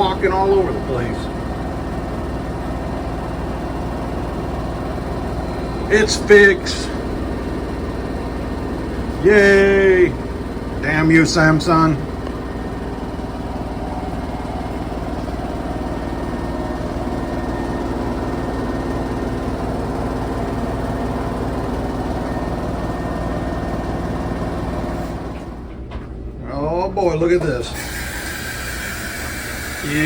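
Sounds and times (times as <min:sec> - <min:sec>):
washing machine spinning hum: 0:00.0 - 0:30.0.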